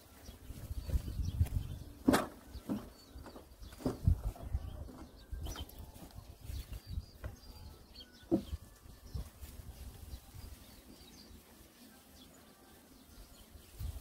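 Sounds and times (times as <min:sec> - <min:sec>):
faint bird chirps: 0:00.1 - 0:11.4.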